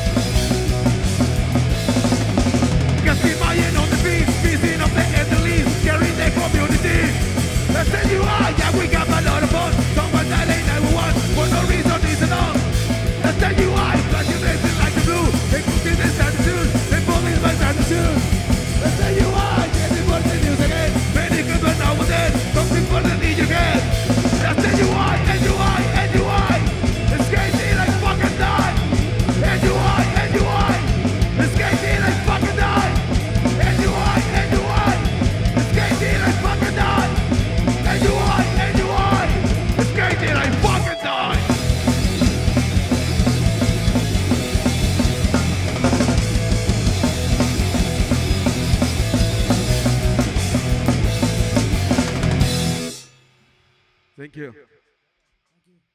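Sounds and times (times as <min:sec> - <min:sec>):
punk rock band playing live: 0:00.0 - 0:53.2.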